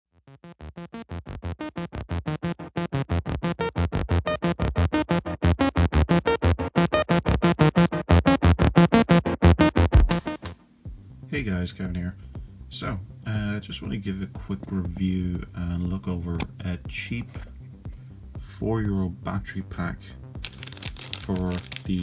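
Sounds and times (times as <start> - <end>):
fast electronic music: 0.4 - 10.6, 12.4 - 19.0, 19.9 - 22.0.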